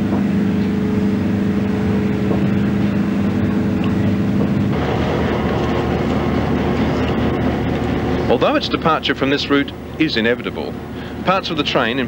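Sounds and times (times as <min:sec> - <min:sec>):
diesel locomotive droning: 0:00.0 - 0:12.0.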